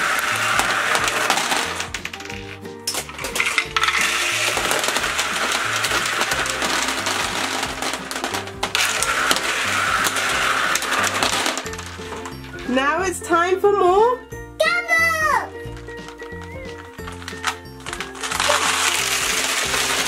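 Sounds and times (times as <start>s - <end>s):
gumballs rattling down plastic ramps: 0.0s - 12.9s, 15.5s - 20.0s
background music: 0.0s - 20.0s.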